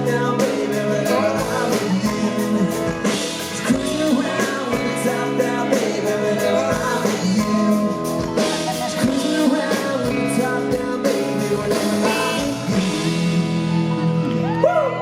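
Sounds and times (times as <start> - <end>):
drum kit beat: 0.0 - 14.6
country-rock band playing: 0.0 - 15.0
person singing: 0.0 - 15.0.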